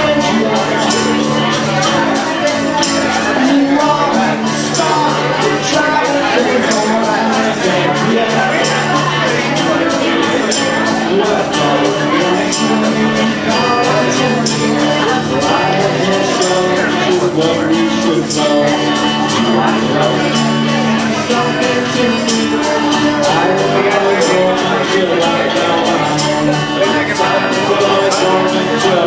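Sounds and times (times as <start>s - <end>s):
acoustic rock band playing: 0.0s - 29.0s.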